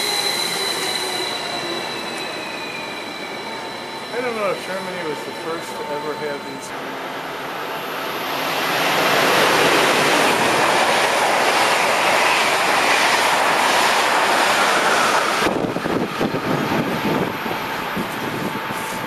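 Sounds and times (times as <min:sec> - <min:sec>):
train rushing past: 0:00.0 - 0:19.0.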